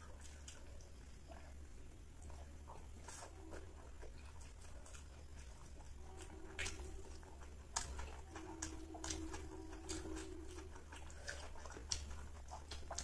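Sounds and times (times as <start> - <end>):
chewing and finger smacks: 0.0 - 13.0
faint steady hum: 0.0 - 13.0.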